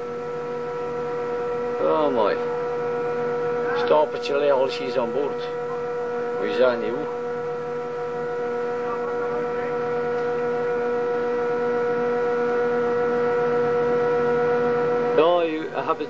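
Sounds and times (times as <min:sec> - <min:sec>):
boat machinery whining hum: 0:00.0 - 0:16.0.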